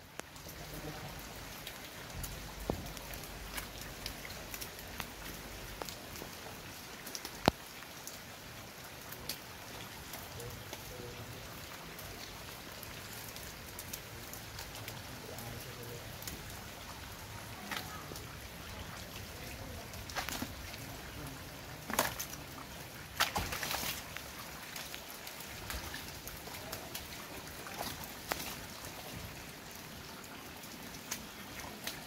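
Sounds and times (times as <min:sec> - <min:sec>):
rain falling on paving: 0:00.0 - 0:32.0.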